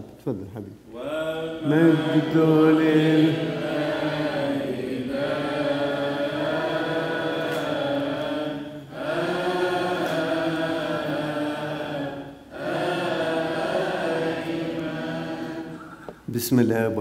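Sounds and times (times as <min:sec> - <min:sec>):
congregation chanting in unison: 0:00.9 - 0:16.3.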